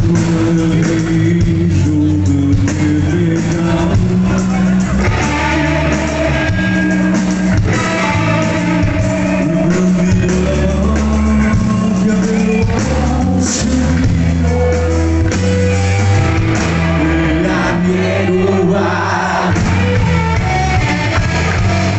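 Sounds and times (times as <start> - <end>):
electric guitar: 0.0 - 21.9
rock band playing live: 0.0 - 21.9.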